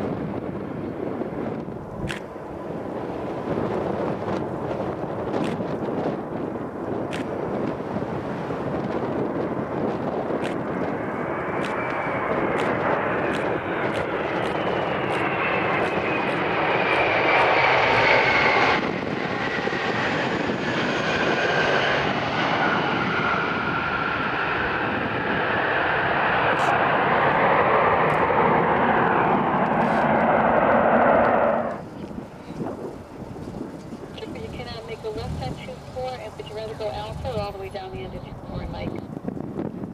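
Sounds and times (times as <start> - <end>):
jet engines landing: 0.0 - 39.9.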